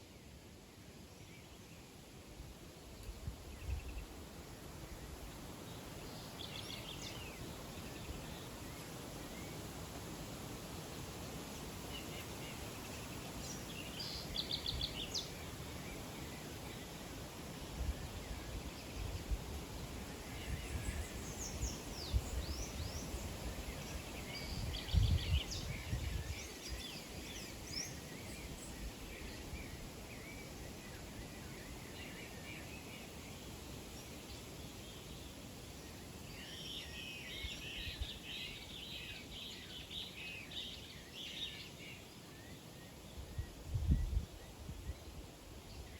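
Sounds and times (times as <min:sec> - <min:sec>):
steady background hiss: 0:00.0 - 0:45.9
small birds chirping: 0:02.9 - 0:45.9.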